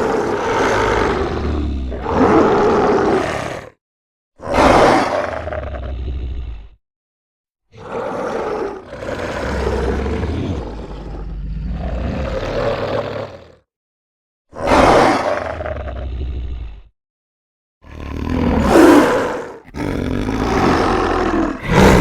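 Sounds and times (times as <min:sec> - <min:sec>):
demon roar: 0:00.0 - 0:03.8, 0:04.4 - 0:06.8, 0:07.8 - 0:13.6, 0:14.5 - 0:16.9, 0:17.8 - 0:22.0.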